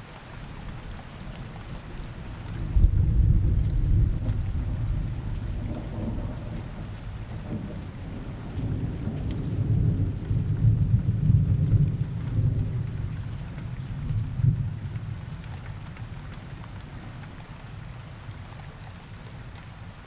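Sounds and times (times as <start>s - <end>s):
faint hiss of rain: 0.0s - 20.0s
low rolling thunder: 0.7s - 18.5s.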